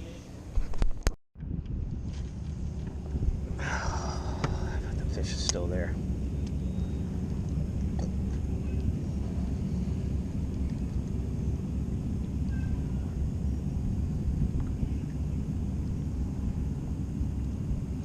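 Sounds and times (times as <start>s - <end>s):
boat motor rumbling: 0.0s - 18.0s.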